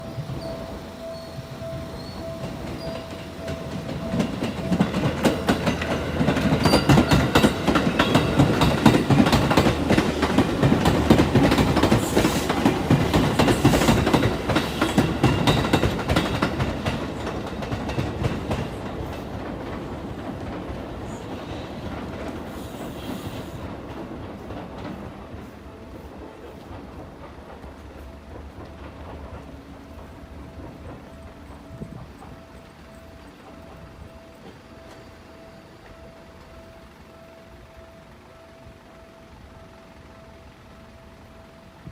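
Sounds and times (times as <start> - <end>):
electric train passing: 0.0 - 41.9
train wheels clacking over rail joints: 2.4 - 36.6.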